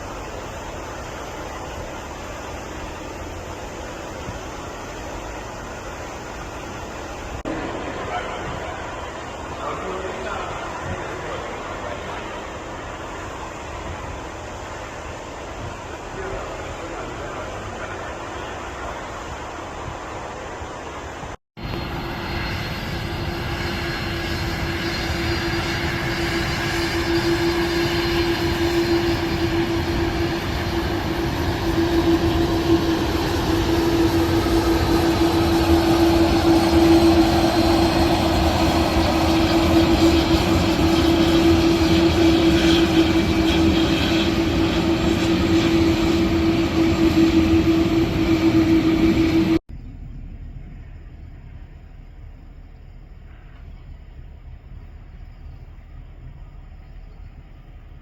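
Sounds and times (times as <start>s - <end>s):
jet engines roaring and whining: 0.0s - 52.3s.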